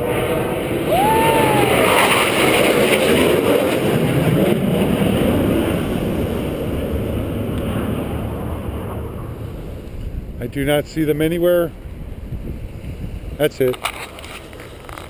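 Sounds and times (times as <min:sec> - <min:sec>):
jet roaring past: 0:00.0 - 0:13.4.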